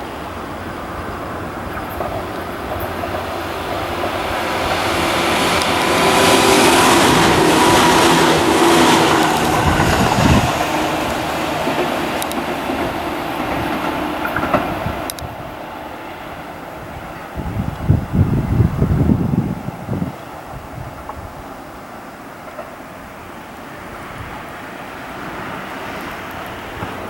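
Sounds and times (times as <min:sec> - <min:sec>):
electric train passing: 0:00.0 - 0:27.0
clickety-clack over rail joints: 0:00.3 - 0:19.0, 0:22.3 - 0:23.0, 0:23.8 - 0:27.0.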